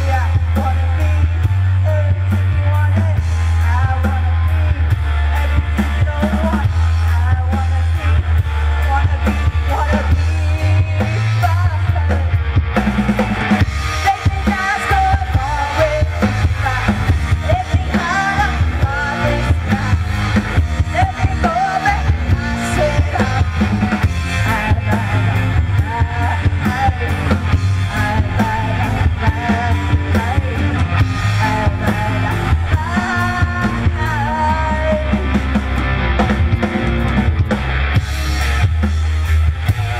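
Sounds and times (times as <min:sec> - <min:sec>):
woman singing into a microphone: 0:00.0 - 0:08.2, 0:08.8 - 0:12.4, 0:14.0 - 0:35.5
drum kit: 0:00.0 - 0:39.9
electric guitar: 0:00.0 - 0:39.9.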